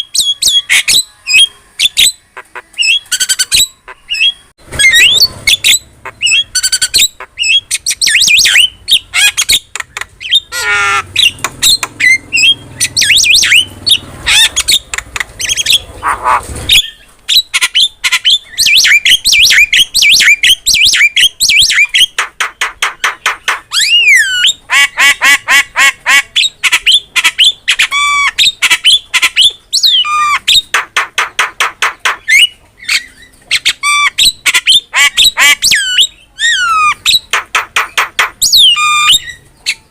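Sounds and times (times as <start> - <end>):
myna bird singing: 0.0 - 39.9.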